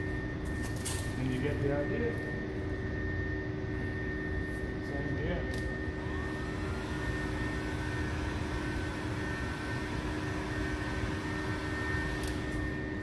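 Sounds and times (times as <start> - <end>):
heat gun fan humming: 0.0 - 13.0.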